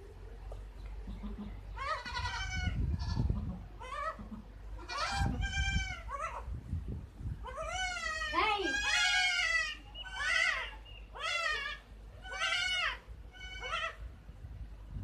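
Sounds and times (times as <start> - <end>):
goat kid bleating: 1.0 - 6.5, 7.4 - 14.1.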